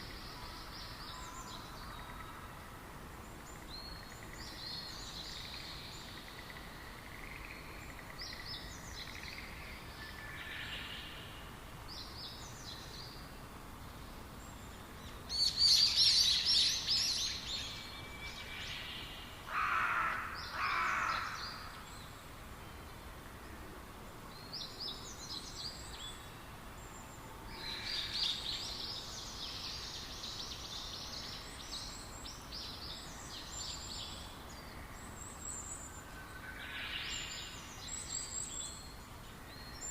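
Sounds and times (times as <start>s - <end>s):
steady outdoor hiss: 0.0s - 39.9s
small birds chirping and singing: 3.2s - 23.2s, 24.1s - 39.9s.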